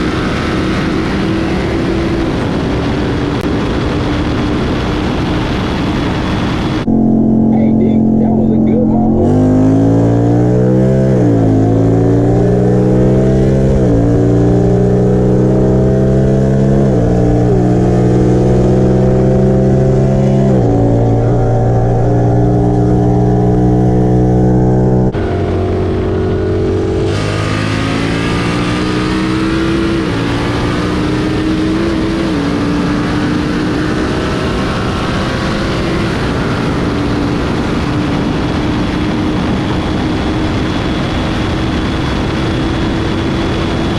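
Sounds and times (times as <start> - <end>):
car engine accelerating through gears: 0.0 - 5.0, 6.4 - 43.9
wind and road noise: 0.0 - 43.9.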